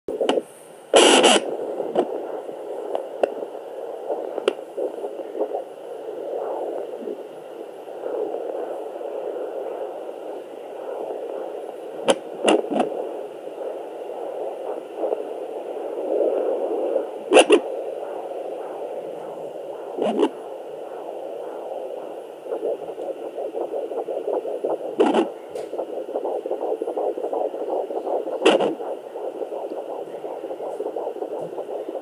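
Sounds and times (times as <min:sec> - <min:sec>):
whooshing static: 0:00.1 - 0:32.0.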